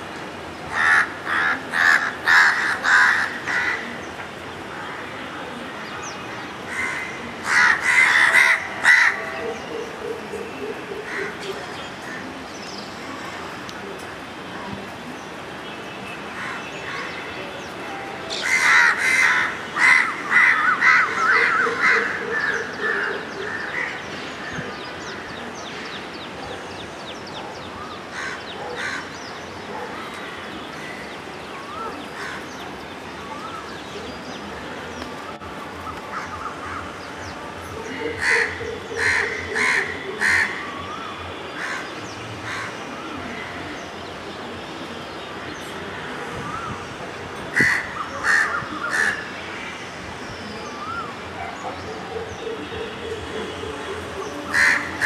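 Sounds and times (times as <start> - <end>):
birds calling: 0.0 - 13.6, 15.0 - 55.0
steady background noise: 0.0 - 55.0.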